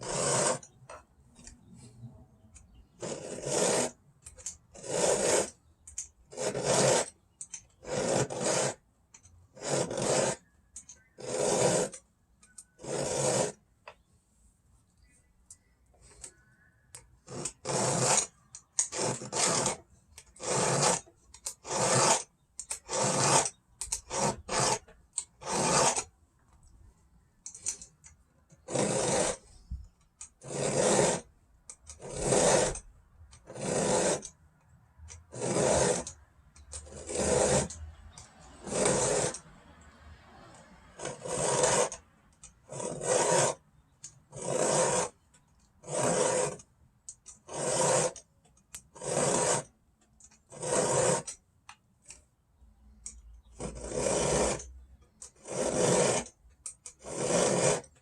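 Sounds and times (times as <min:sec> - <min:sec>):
hand file rasping on chain: 0:00.0 - 0:01.6, 0:02.6 - 0:13.6, 0:17.2 - 0:26.1, 0:28.5 - 0:34.4, 0:35.2 - 0:39.5, 0:40.5 - 0:49.7, 0:50.4 - 0:51.4, 0:53.0 - 0:58.0.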